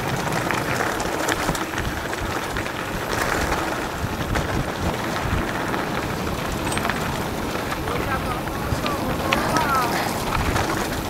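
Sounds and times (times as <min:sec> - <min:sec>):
bike clicks and rattles: 0:00.0 - 0:11.0
bike tyres rolling on dirt: 0:00.0 - 0:11.0
wind on microphone: 0:00.0 - 0:11.0.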